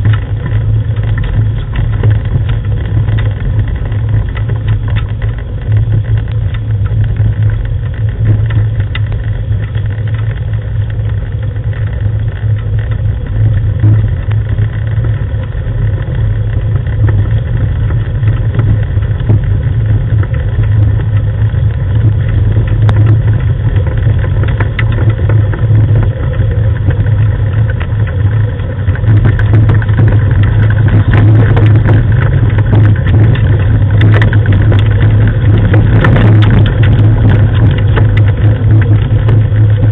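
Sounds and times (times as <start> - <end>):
low engine hum: 0.0 - 39.9
wheels rumbling on gravel: 0.0 - 39.9.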